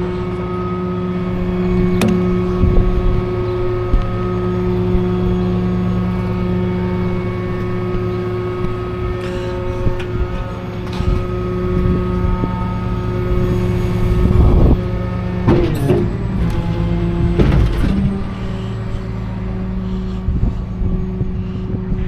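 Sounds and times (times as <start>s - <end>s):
road noise: 0.0s - 22.0s
truck engine drone: 0.0s - 22.0s.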